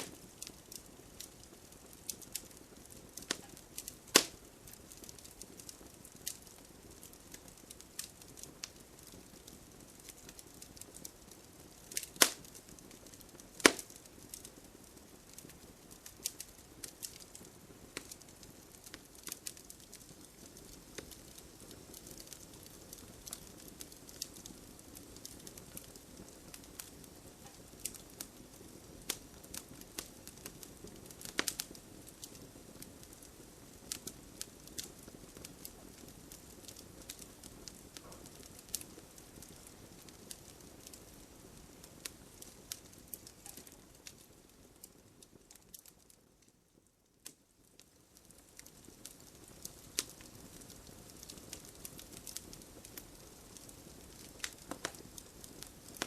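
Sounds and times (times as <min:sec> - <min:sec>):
campfire pops and snaps: 0:00.0 - 0:46.1, 0:48.4 - 0:56.0
hiss of burning wood: 0:00.0 - 0:46.2, 0:47.1 - 0:56.0.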